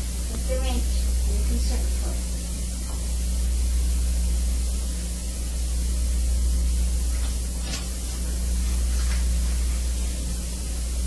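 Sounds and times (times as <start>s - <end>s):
low electrical hum: 0.0s - 11.0s
steady hiss: 0.0s - 11.0s.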